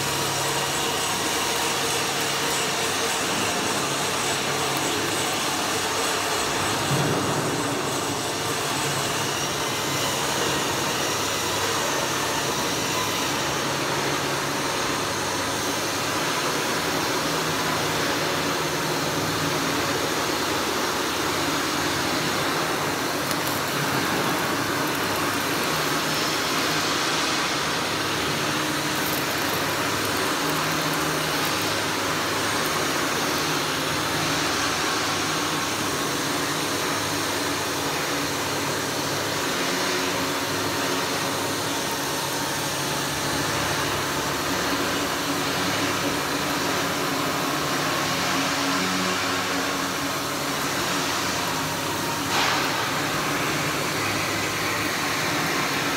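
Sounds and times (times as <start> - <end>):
arc welding hiss: 0.0 - 55.9.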